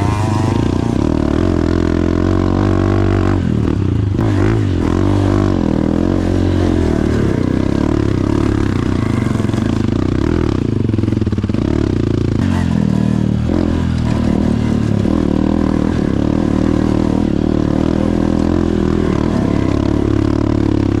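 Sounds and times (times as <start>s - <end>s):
two-stroke dirt bike engine revving: 0.0s - 21.0s.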